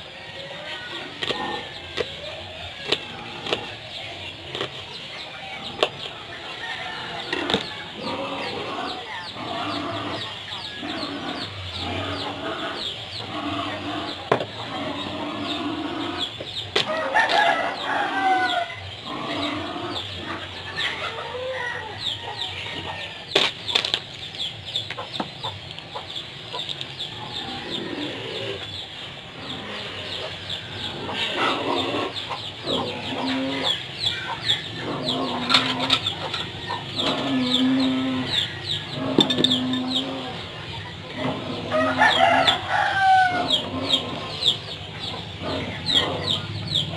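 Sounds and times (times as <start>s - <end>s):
chickens clucking: 0.0s - 46.9s.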